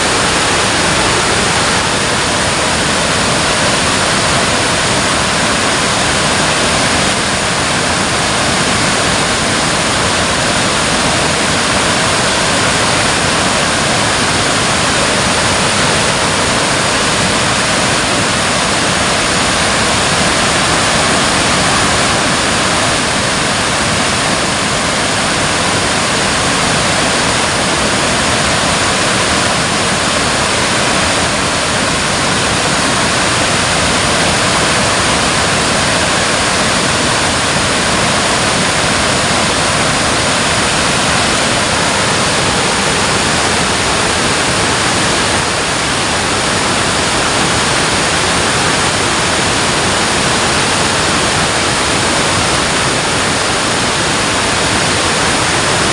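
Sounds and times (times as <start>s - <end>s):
water rushing over a dam: 0.0s - 55.9s.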